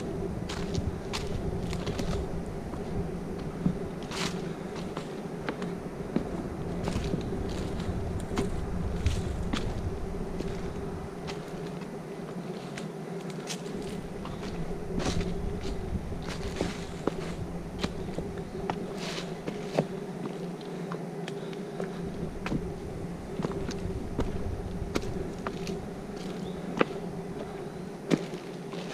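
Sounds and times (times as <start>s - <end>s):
footsteps on a trail: 0.0s - 28.9s
steady low hum: 0.0s - 28.9s.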